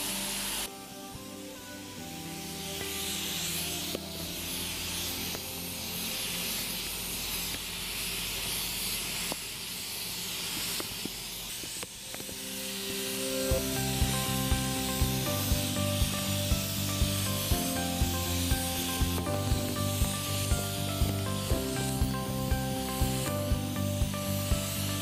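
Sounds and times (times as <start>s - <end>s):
faint background music: 0.0s - 9.8s, 11.6s - 25.0s
paint spray gun hissing: 0.0s - 25.0s.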